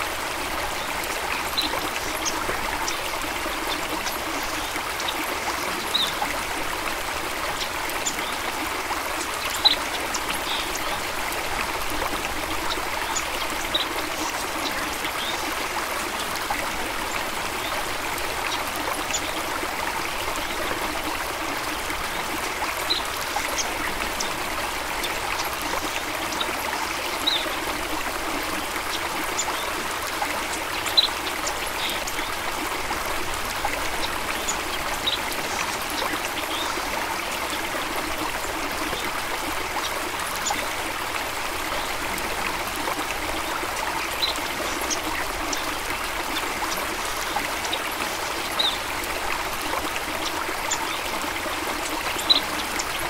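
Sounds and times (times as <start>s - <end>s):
stream trickling and burbling: 0.0s - 53.0s.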